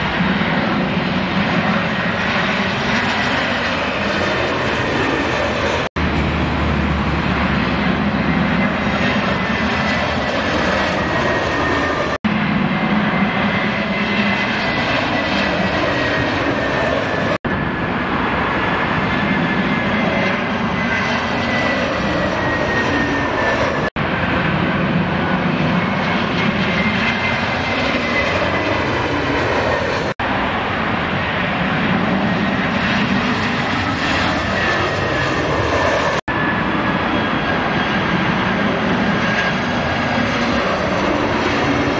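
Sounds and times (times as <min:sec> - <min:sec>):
jet airliner engine roar and whine: 0:00.0 - 0:41.9.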